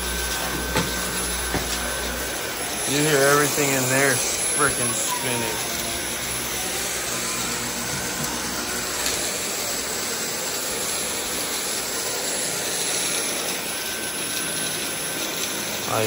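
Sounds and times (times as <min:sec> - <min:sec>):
cordless vacuum running: 0:00.0 - 0:16.0.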